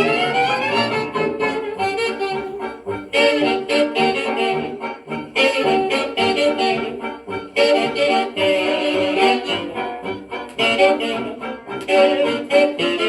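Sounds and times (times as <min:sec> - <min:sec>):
jazz band with saxophones and brass: 0:00.0 - 0:13.0.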